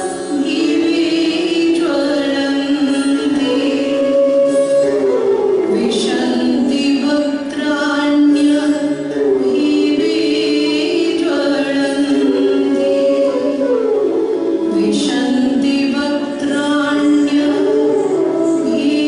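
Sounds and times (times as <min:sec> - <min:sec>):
music with gliding held vocals: 0:00.0 - 0:19.0.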